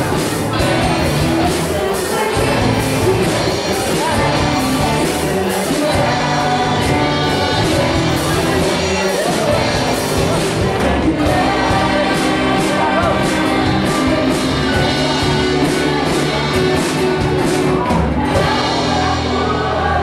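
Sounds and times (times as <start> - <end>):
person singing: 0.0 - 20.0
rock band playing live: 0.0 - 20.0.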